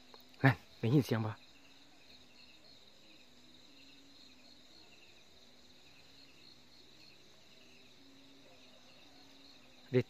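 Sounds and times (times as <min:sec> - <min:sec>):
crickets and insects chirping: 0:00.0 - 0:10.0.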